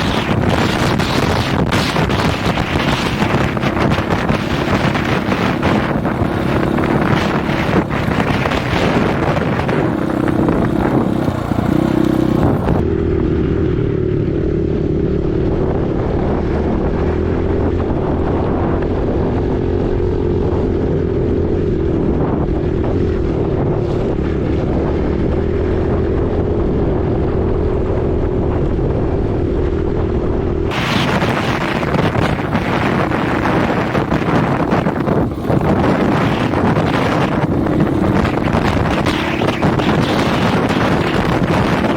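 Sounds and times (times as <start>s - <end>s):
dirt bike engine running: 0.0s - 41.9s
wind buffeting microphone: 0.0s - 41.9s.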